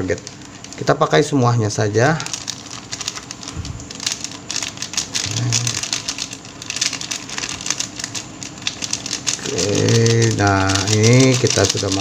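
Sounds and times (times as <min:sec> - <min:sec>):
plastic sachet crinkling: 0:00.0 - 0:12.0.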